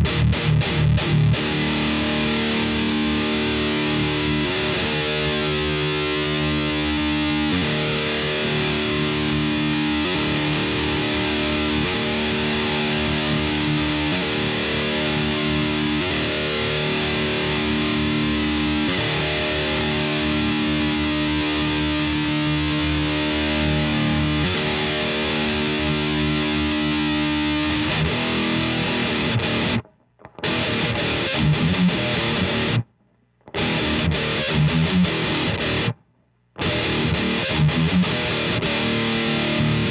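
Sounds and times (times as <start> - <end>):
distorted electric guitar chords: 0.0 - 39.9.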